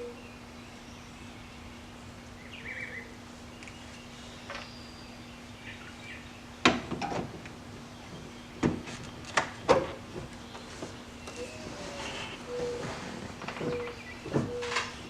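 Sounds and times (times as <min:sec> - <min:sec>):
birds chirping faintly: 0:00.0 - 0:15.0
faint steady hum: 0:00.0 - 0:15.0.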